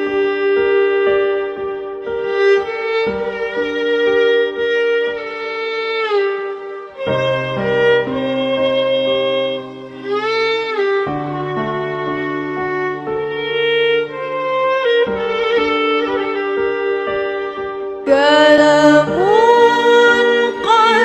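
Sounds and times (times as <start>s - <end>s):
violin-like melody: 0.0s - 21.0s.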